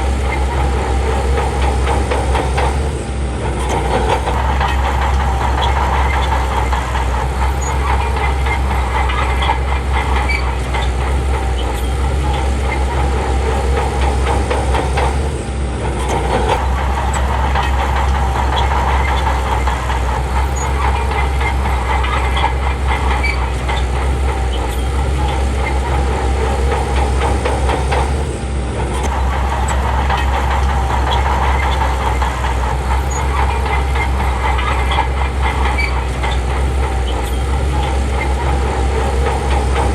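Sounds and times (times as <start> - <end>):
bulldozer diesel engine running: 0.0 - 39.9
clanking rattle: 0.0 - 39.9.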